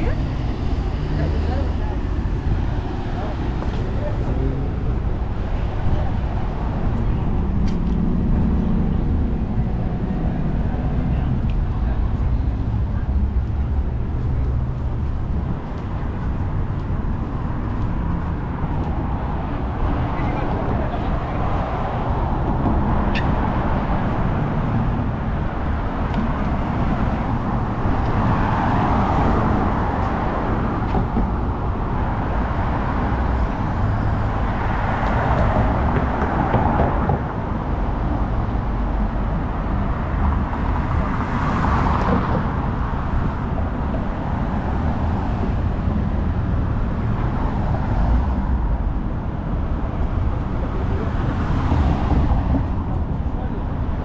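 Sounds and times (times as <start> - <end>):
cars passing by: 0.0 - 54.0
traffic rumble: 0.0 - 54.0.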